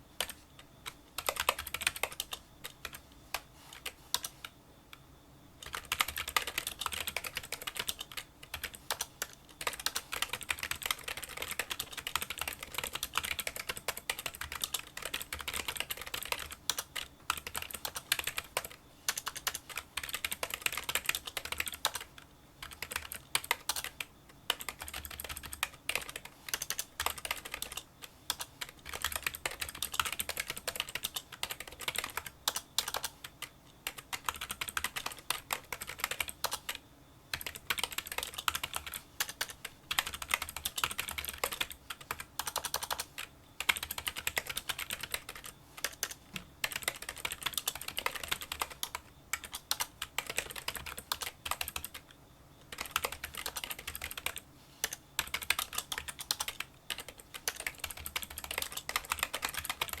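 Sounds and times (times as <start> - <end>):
keyboard typing clicks: 0.2 - 5.0, 5.6 - 60.0.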